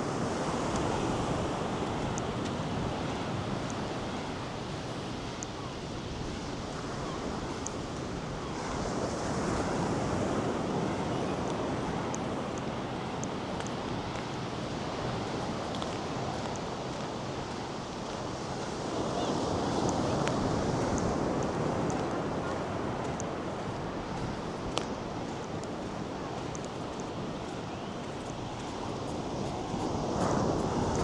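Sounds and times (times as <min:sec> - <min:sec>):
surf washing onto beach: 0:00.0 - 0:31.0
wind on microphone: 0:00.0 - 0:31.0.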